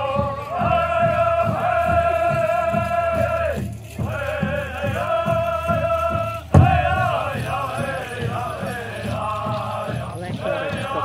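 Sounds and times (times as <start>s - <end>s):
big drum beating: 0.0s - 11.0s
high wavering voices chanting: 0.0s - 11.0s.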